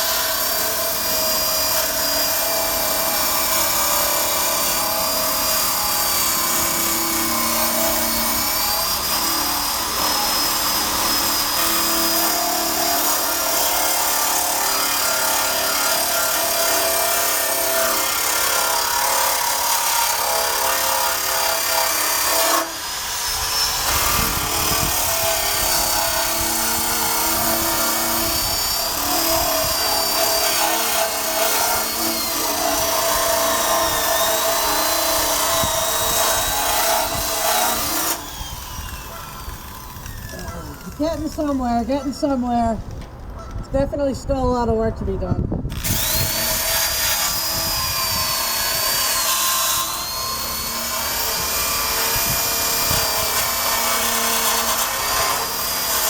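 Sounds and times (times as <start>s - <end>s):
power wire brush scrubbing metal: 0.0s - 42.7s, 45.7s - 56.0s.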